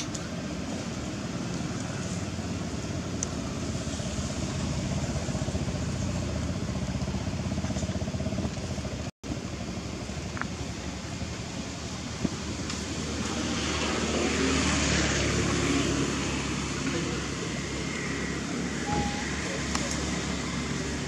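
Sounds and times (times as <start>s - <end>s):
faint outdoor background noise: 0.0s - 21.0s
low engine drone: 0.1s - 21.0s.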